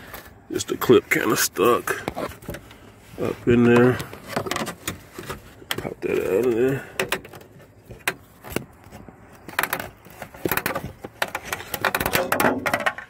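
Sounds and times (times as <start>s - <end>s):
plastic cracking and creaking: 1.3s - 13.0s.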